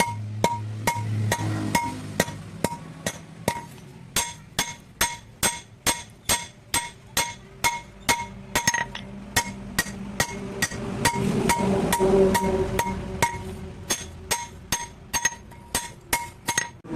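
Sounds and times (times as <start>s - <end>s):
hammer striking blade on anvil: 0.0s - 16.9s.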